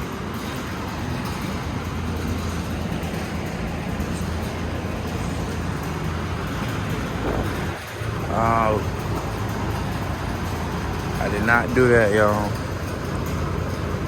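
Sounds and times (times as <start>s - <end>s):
low vehicle rumble: 0.0s - 14.0s.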